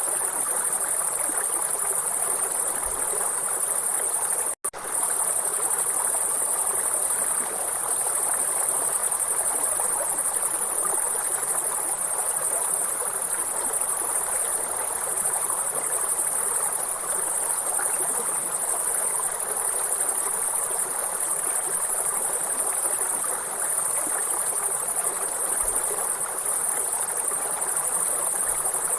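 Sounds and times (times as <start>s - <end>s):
high-pitched insect chorus: 0.0s - 28.9s.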